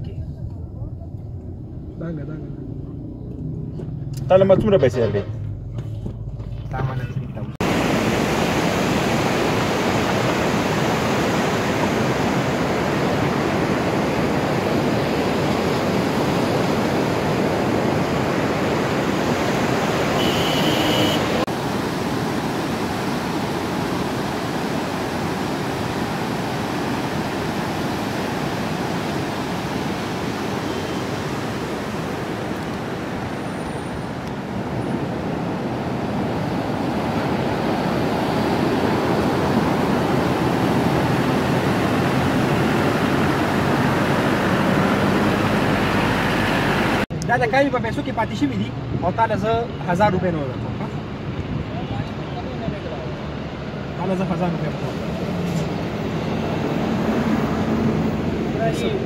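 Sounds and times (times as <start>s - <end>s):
mountain river rushing: 7.6s - 47.1s, 50.6s - 59.0s.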